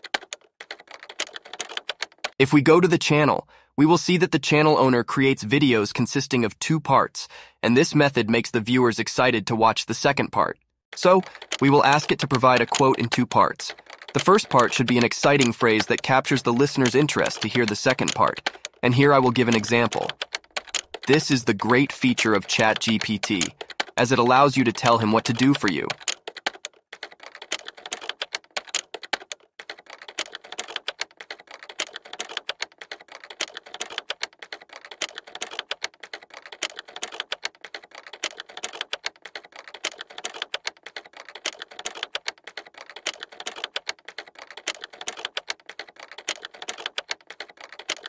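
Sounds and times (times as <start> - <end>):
fast keyboard typing: 0.0 - 2.4, 11.0 - 48.0.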